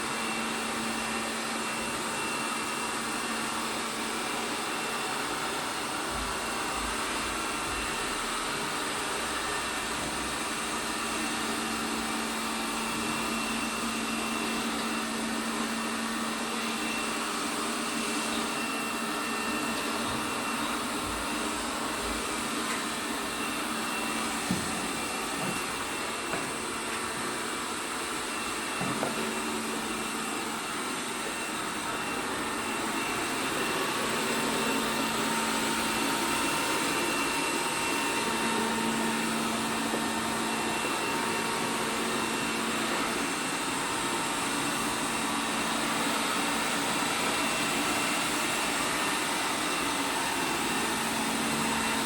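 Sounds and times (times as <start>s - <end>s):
robot vacuum running: 0.0s - 52.0s.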